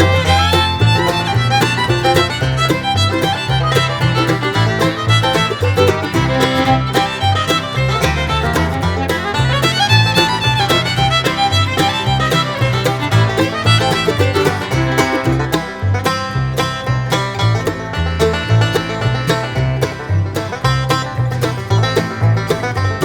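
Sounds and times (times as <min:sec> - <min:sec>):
banjo: 0:00.0 - 0:23.0
bouncing bass beat: 0:00.0 - 0:23.0
fiddle: 0:00.0 - 0:23.0.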